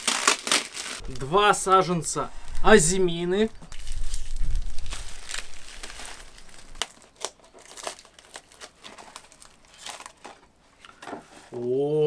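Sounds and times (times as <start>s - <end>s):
packaging crinkling: 0.0s - 10.5s.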